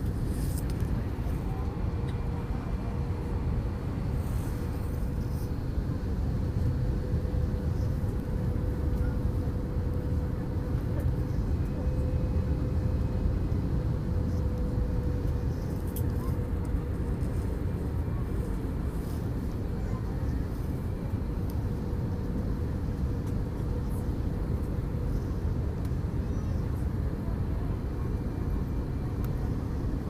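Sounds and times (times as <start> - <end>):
engine and airflow rumble: 0.0 - 30.0.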